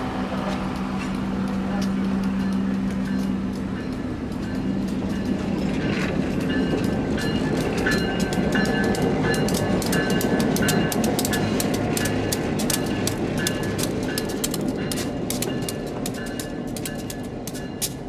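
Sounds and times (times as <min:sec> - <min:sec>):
diesel locomotive engine hum: 0:00.0 - 0:18.0
rapid clicking from rails: 0:00.0 - 0:18.0.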